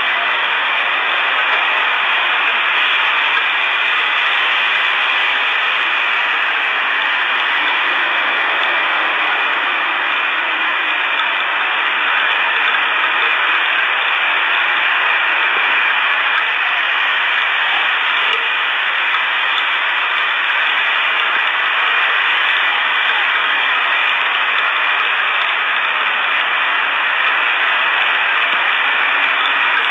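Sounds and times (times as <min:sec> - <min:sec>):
static hiss: 0:00.0 - 0:29.9.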